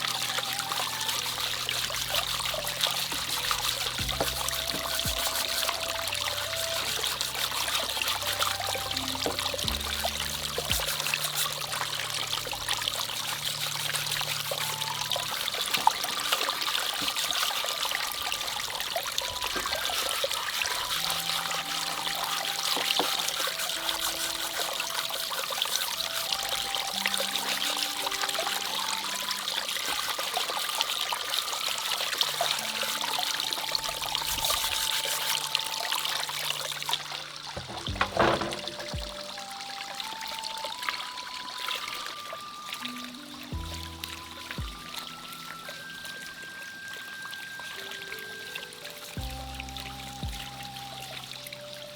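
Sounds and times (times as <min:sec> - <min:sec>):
soft instrumental music: 0:00.0 - 0:51.9
water trickling and pouring: 0:00.0 - 0:51.9.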